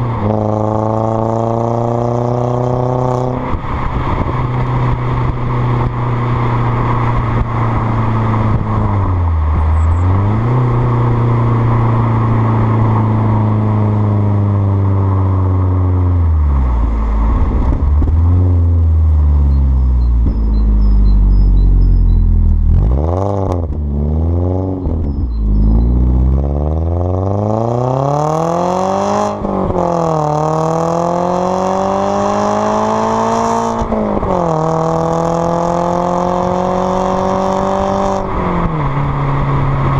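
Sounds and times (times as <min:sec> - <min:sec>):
car engine revving through exhaust: 0:00.0 - 0:39.9
road and wind rush: 0:00.0 - 0:39.9.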